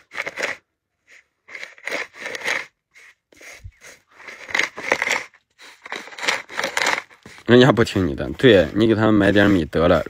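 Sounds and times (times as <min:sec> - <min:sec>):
stone scraping grain: 0:01.1 - 0:10.0.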